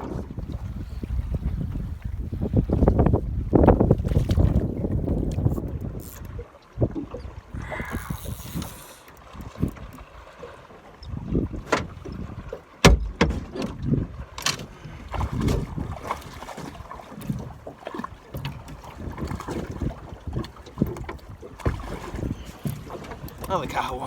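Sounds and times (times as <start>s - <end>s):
wind on microphone: 0.0s - 10.1s, 11.0s - 23.8s
water slapping boat hull: 0.0s - 24.0s.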